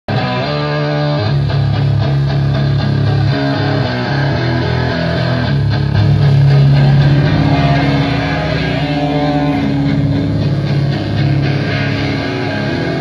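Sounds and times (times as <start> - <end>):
metal band playing held chords: 1.9 - 13.0.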